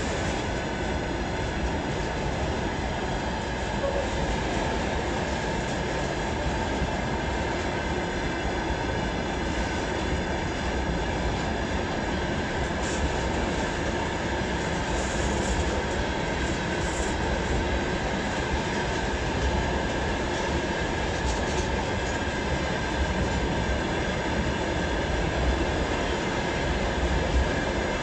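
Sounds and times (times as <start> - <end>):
freight train wheels on rails: 0.0 - 28.0.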